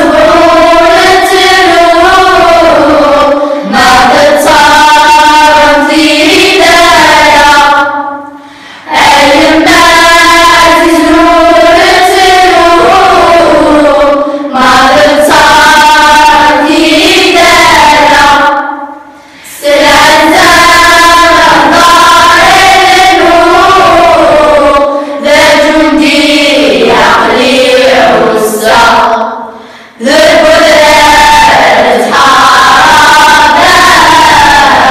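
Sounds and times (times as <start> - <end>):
children's choir singing: 0.0 - 34.9.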